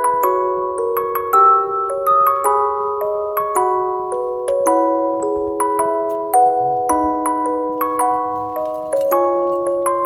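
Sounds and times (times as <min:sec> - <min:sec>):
glockenspiel melody: 0:00.0 - 0:10.0.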